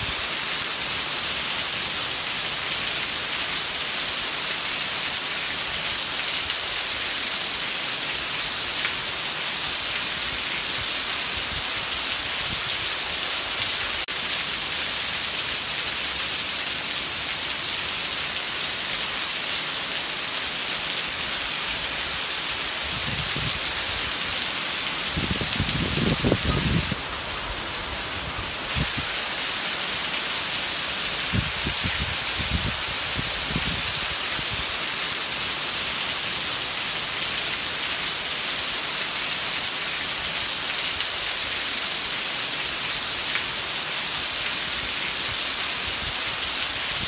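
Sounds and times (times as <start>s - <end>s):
heavy rain on patio: 0.0s - 47.0s.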